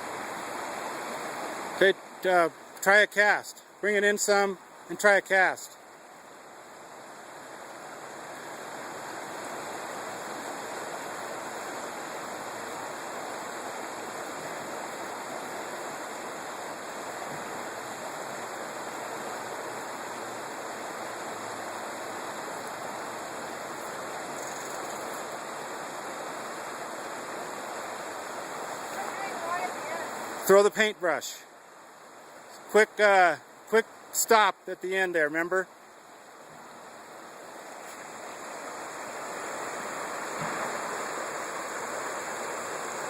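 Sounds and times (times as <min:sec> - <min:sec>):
creek flowing over rocks: 0:00.0 - 0:43.0.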